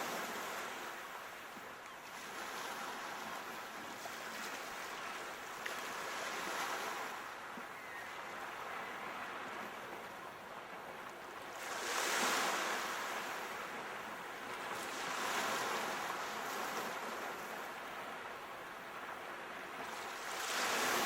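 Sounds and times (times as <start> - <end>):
ocean waves washing: 2.2 - 21.0.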